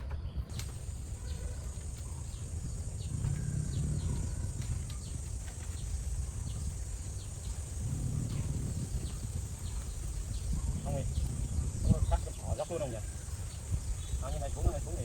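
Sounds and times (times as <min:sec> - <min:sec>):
faint bird chirps: 0:00.0 - 0:15.0
steady high hiss: 0:00.5 - 0:15.0.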